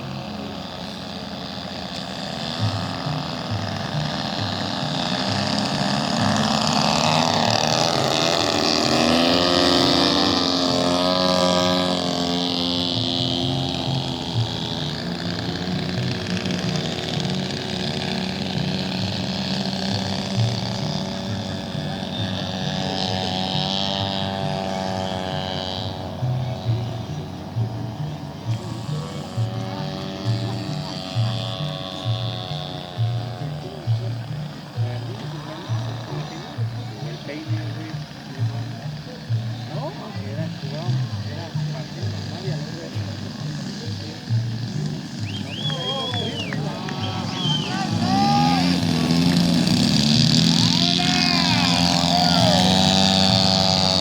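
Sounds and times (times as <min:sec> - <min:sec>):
model airplane engine passing: 0:00.0 - 0:54.0.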